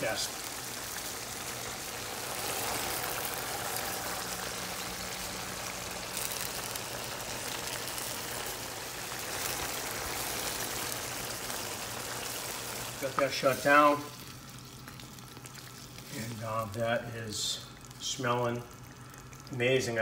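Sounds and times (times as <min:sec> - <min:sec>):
stew sizzling and bubbling: 0:00.0 - 0:20.0.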